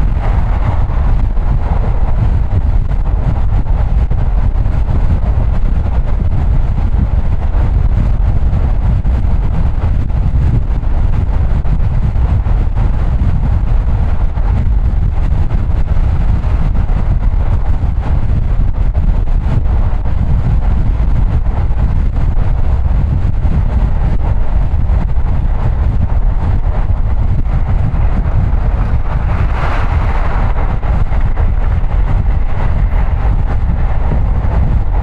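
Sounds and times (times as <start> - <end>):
car road and wind noise: 0.0 - 35.0.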